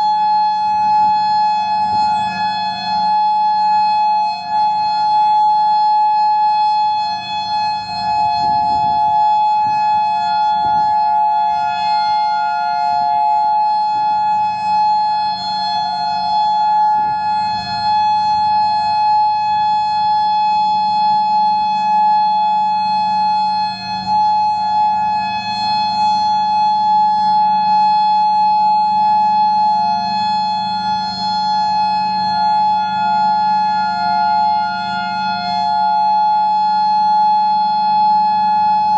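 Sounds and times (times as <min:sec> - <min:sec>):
second lower siren tone: 0:00.0 - 0:38.9
siren steady alert tone: 0:00.0 - 0:38.9.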